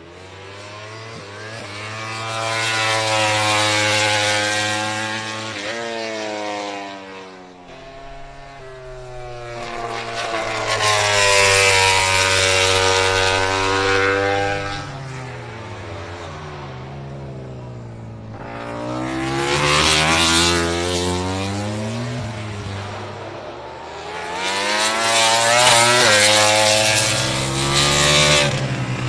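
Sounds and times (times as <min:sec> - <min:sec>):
racing motorcycles passing: 0:00.0 - 0:29.0.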